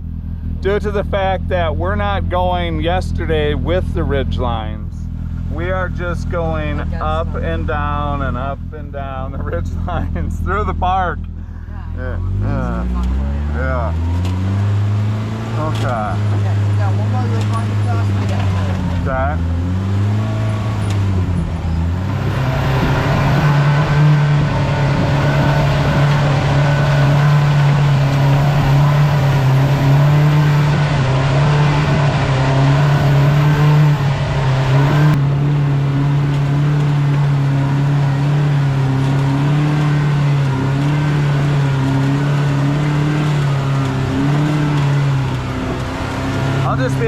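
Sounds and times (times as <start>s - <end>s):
engine revving: 0.0s - 47.0s
road and trail noise: 0.0s - 47.0s.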